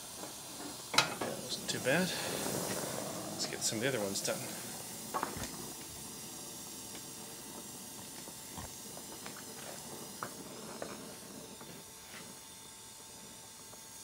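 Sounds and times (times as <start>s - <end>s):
gas torch flame hissing: 0.0s - 14.0s.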